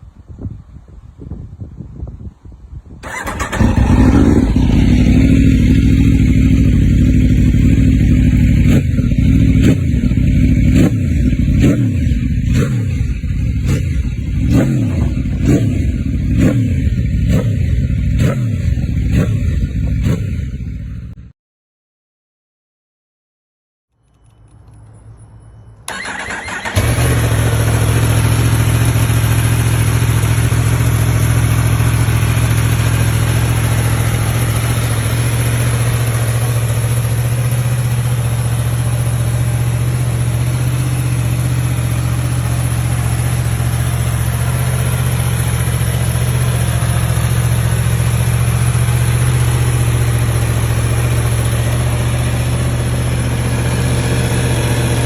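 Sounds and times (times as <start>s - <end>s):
motorcycle engine starting and idling: 3.0s - 21.2s, 25.9s - 55.0s.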